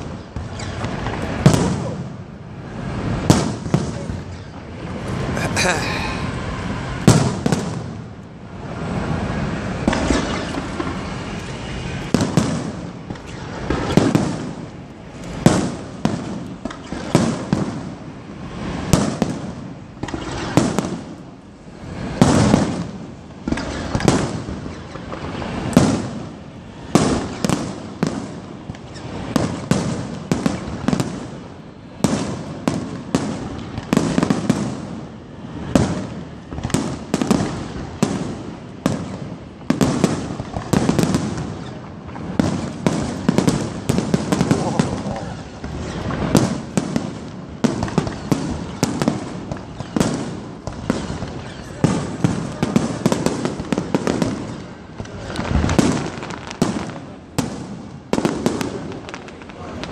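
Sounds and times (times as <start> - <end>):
firework shells bursting: 0.0 - 2.0, 9.7 - 18.1, 18.8 - 59.9.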